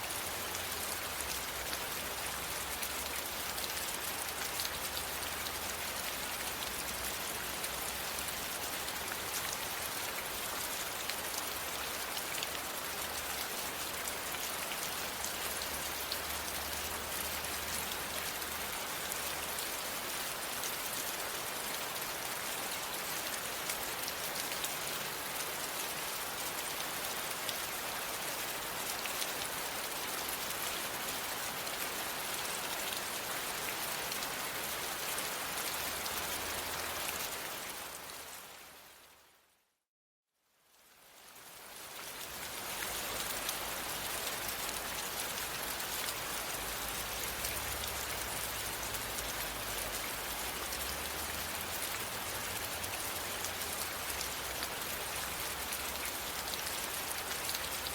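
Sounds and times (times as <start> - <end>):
steady rain falling: 0.0 - 39.4, 40.6 - 57.9.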